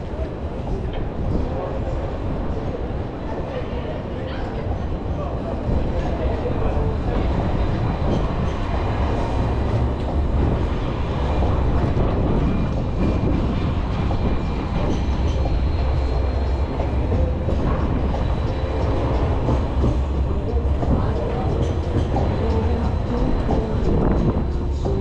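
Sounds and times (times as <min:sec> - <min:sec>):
city street noise: 0:00.0 - 0:25.0
tram rumbling: 0:00.0 - 0:25.0.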